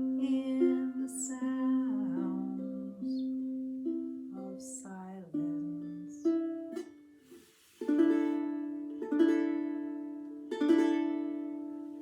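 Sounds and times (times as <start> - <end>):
ukulele chords strummed: 0.0 - 12.0.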